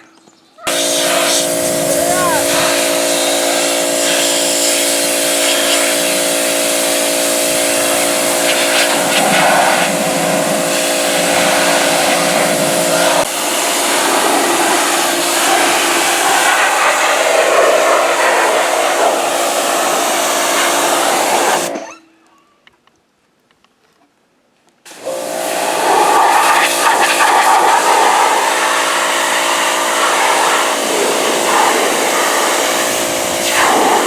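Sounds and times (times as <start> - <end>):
pressure washer spraying water: 0.7 - 21.9, 24.9 - 34.0.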